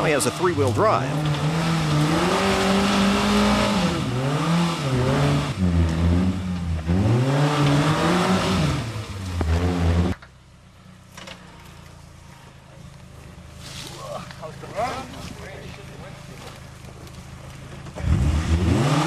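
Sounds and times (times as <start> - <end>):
car engine revving: 0.0 - 10.3, 11.5 - 19.0.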